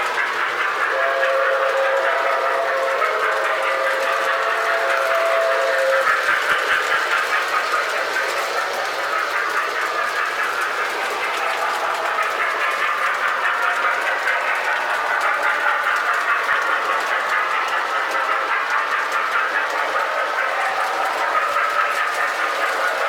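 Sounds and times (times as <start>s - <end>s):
toy train running hum: 0.0s - 23.0s
wheels clicking over rail joints: 0.0s - 23.0s.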